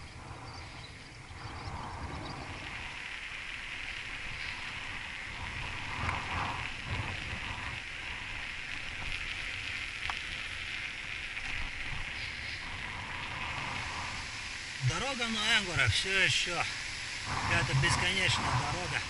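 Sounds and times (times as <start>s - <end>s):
bicycle tyres rolling on asphalt: 0.0s - 19.0s
wind rumbling on microphone: 0.0s - 19.0s.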